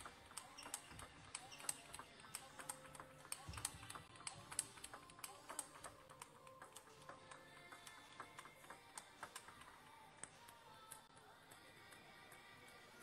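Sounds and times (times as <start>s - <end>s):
table tennis ball clicking: 0.0s - 12.8s.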